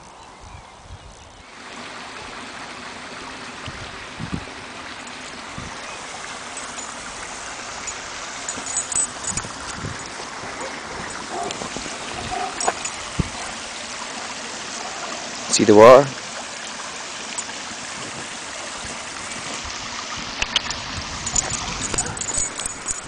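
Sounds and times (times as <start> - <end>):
stream rushing over stones: 1.4 - 23.0.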